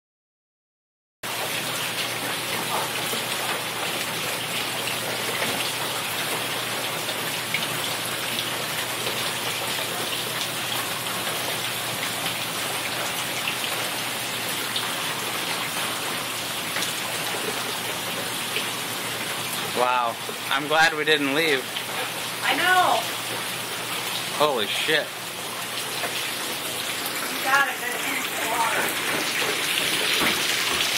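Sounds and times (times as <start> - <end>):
rainwater pouring and splashing: 1.2 - 30.9.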